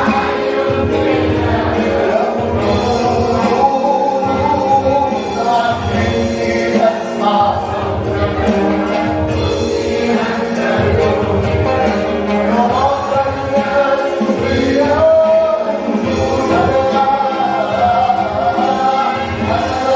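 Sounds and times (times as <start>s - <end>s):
choir singing held notes: 0.0s - 19.9s
instrumental accompaniment: 0.0s - 19.9s.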